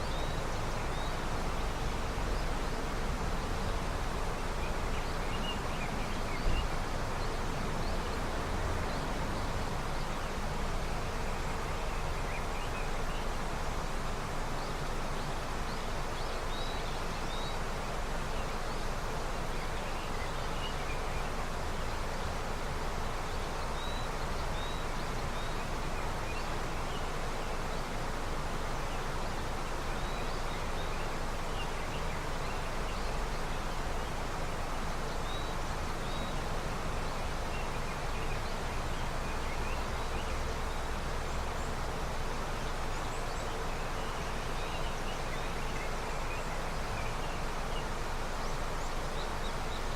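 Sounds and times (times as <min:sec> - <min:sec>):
river rushing: 0:00.0 - 0:49.9.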